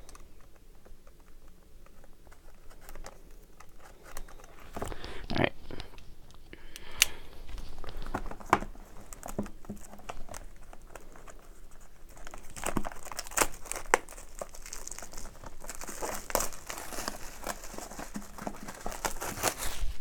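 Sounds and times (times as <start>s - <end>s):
cardboard rustling: 0.0s - 6.5s, 7.1s - 20.0s
plastic wrap crinkling: 0.0s - 20.0s.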